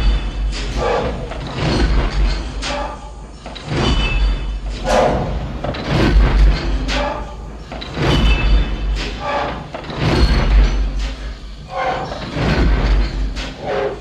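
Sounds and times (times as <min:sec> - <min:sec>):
mechanical walker steps clanking: 0:00.0 - 0:14.0.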